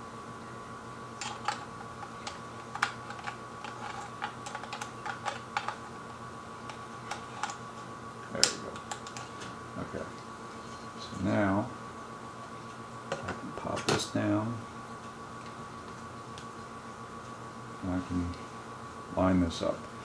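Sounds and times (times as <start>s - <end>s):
steady faint hum: 0.0s - 20.0s.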